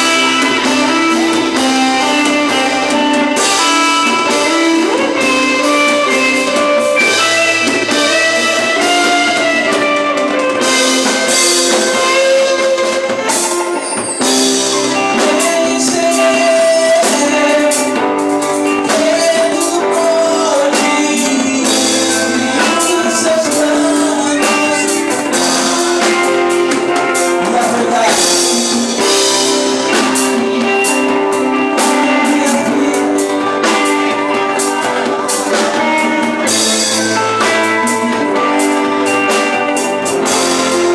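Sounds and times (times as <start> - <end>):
drum kit: 0.0 - 40.9
guitars: 0.0 - 40.9
person singing: 0.0 - 40.9.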